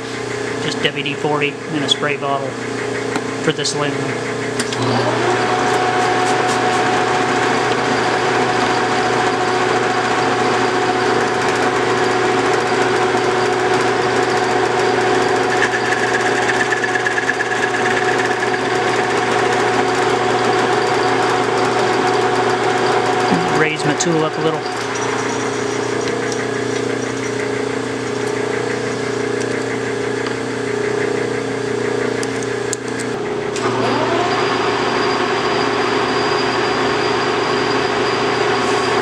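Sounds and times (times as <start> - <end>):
metal lathe motor whining: 0.0 - 39.0.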